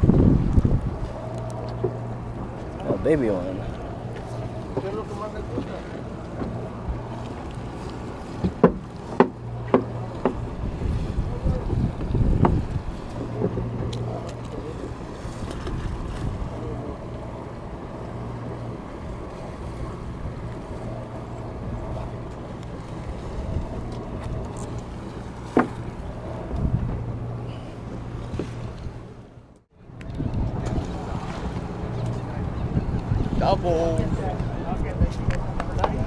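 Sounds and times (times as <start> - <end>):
boat machinery humming: 0.0 - 36.0
wind on microphone: 0.0 - 36.0.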